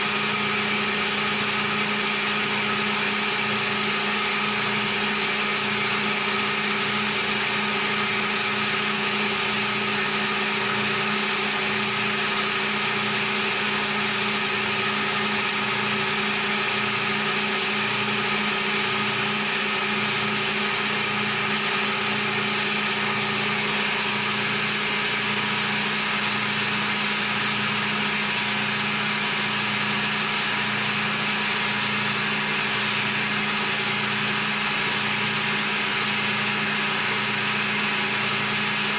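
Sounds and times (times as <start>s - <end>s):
metal cutting noise: 0.0s - 38.9s
milling machine spindle whine: 0.0s - 38.9s.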